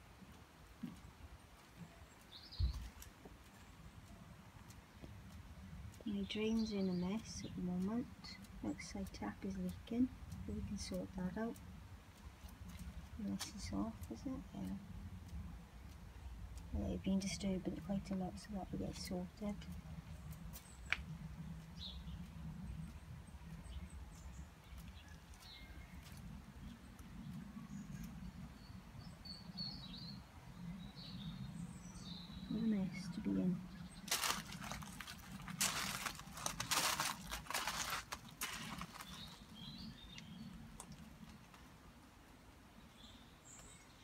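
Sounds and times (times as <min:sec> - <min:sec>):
low rumble on microphone: 0:00.0 - 0:43.9.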